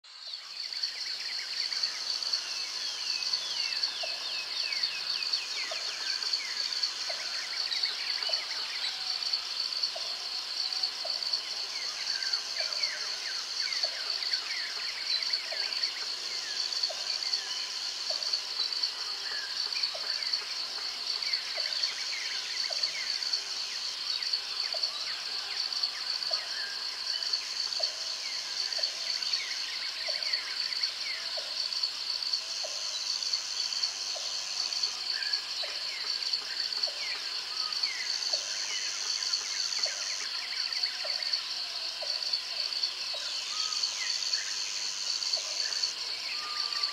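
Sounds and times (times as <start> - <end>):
insects trilling: 0.1 - 46.9.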